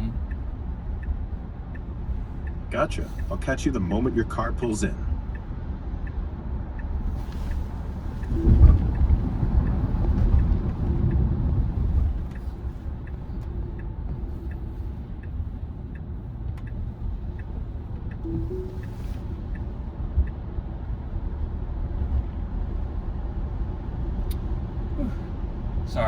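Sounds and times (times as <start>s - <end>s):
road and tyre rumble in car: 0.0s - 26.0s
turn signal ticking: 0.0s - 26.0s.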